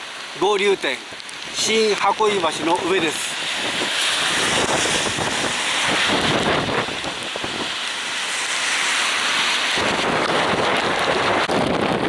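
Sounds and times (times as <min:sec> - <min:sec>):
river rushing: 0:00.0 - 0:12.0
wind buffeting microphone: 0:01.1 - 0:12.0.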